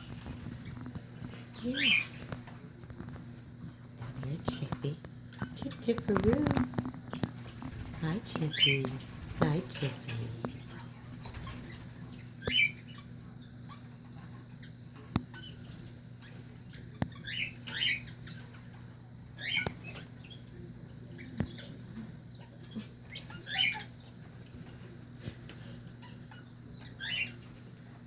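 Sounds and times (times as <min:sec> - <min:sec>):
parakeet chirping: 0:00.0 - 0:03.2, 0:04.4 - 0:24.4, 0:25.9 - 0:27.6
steady low hum: 0:00.0 - 0:28.0.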